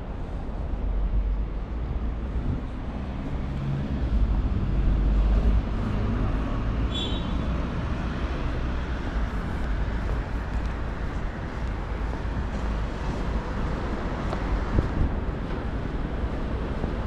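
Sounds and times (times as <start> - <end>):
cars moving and idling: 0.0 - 17.0.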